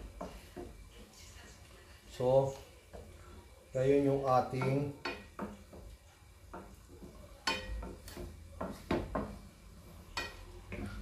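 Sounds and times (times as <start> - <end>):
stirring in wet sauce: 0.0 - 11.0.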